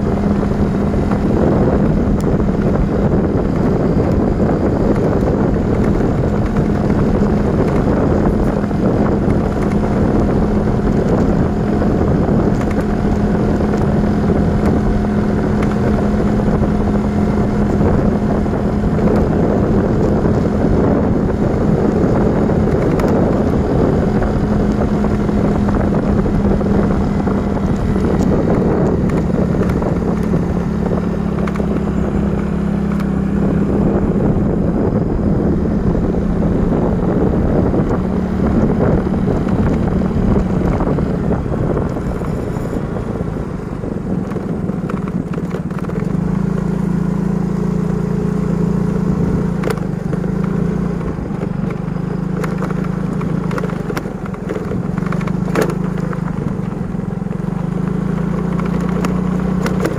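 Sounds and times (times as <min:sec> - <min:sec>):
vehicle engine humming: 0:00.0 - 0:59.9
wind rushing over microphone: 0:00.0 - 0:59.9.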